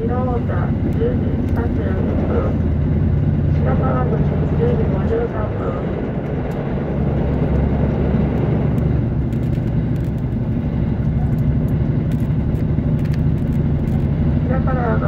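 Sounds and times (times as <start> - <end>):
diesel engine hum: 0.0 - 15.0
train wheels rumbling on rails: 0.0 - 15.0.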